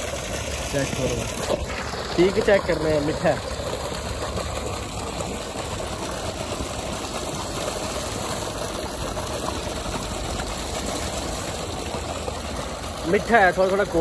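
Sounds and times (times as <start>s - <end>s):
pump running: 0.0s - 14.0s
water pouring from pipe: 0.0s - 14.0s.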